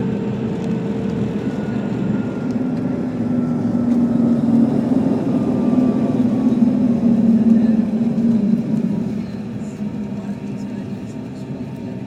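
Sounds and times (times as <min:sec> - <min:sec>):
faint engine whine: 0:00.0 - 0:12.0
airplane cabin rush: 0:00.3 - 0:12.0.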